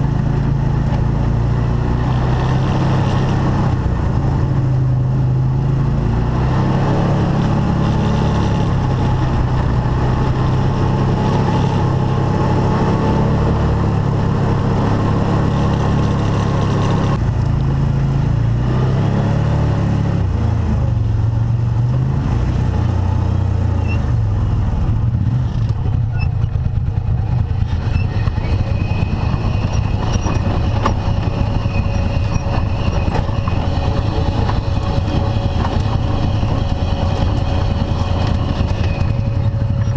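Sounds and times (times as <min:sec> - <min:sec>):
utility vehicle engine running: 0:00.0 - 0:39.9.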